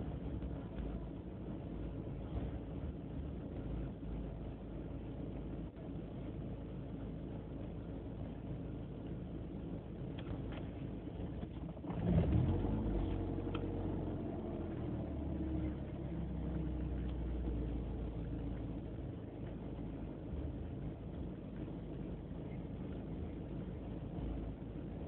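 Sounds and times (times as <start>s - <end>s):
car engine idling roughly: 0.0s - 25.0s.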